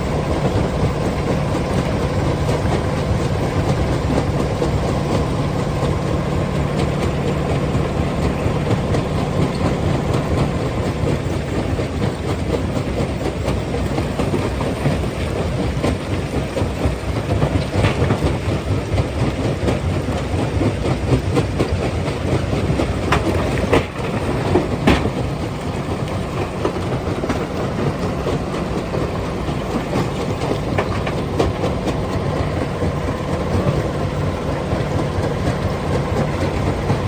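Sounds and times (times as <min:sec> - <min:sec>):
continuous clattering: 0:00.0 - 0:37.0
stone crushing machinery rumbling: 0:00.0 - 0:37.0.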